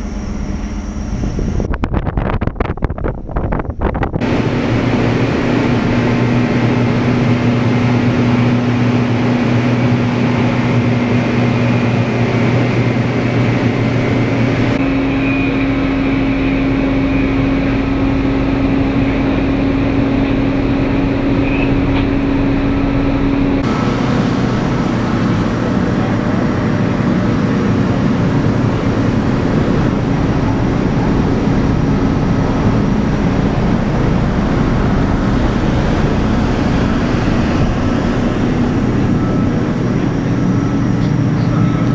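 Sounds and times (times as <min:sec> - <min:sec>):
low hum: 0:00.0 - 0:41.9
ship engines droning: 0:00.0 - 0:41.9.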